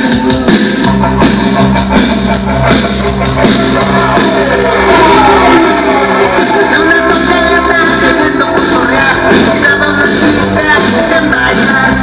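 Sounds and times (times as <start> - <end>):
cumbia music over loud sound system: 0.0 - 12.0.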